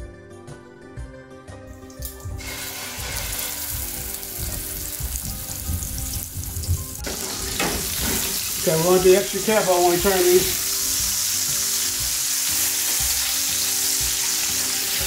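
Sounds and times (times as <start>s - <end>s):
soft background music: 0.0s - 15.0s
meat sizzling in oil: 1.9s - 15.0s.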